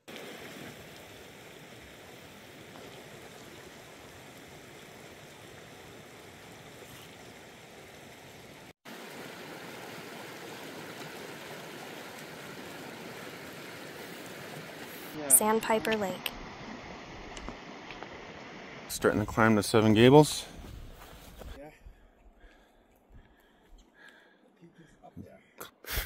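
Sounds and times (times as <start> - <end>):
running water rushing: 0.0 - 21.5.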